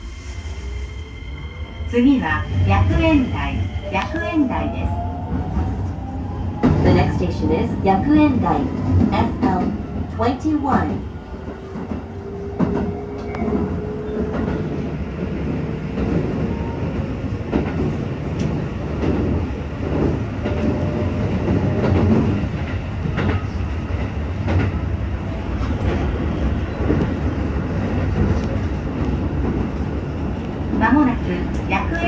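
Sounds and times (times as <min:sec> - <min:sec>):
train interior rumble: 0:00.0 - 0:32.0.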